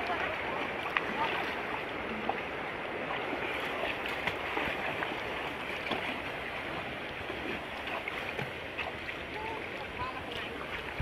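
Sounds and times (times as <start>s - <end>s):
legs wading through water: 0.0s - 11.0s.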